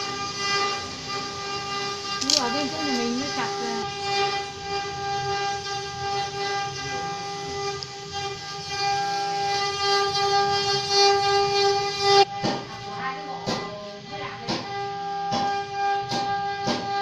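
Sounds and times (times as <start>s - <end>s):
wood lathe high-pitched whine: 0.0s - 17.0s.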